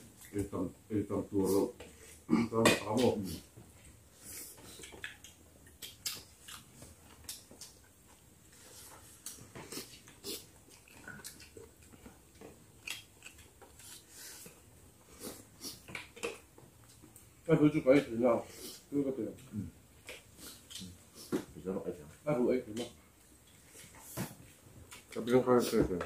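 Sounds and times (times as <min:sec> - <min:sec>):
people chewing and lip smacking: 0:00.0 - 0:00.6, 0:01.8 - 0:17.4, 0:18.5 - 0:25.8.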